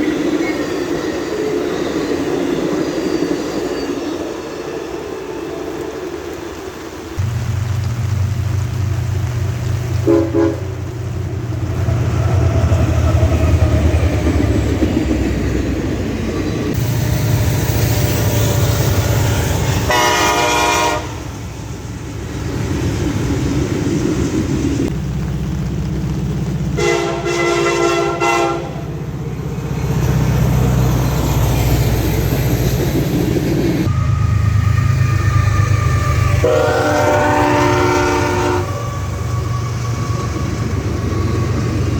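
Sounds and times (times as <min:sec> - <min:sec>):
diesel locomotives rumbling: 0:00.0 - 0:41.9.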